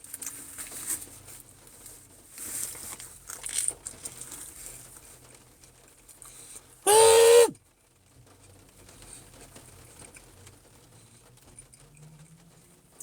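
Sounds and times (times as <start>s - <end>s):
faint patter of rain: 0.0s - 13.0s.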